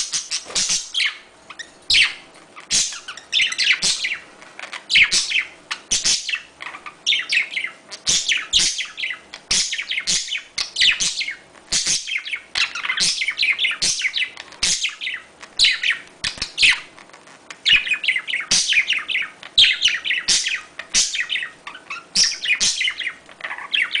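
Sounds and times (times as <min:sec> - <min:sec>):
parrots chirping and chattering: 0:00.0 - 0:24.0.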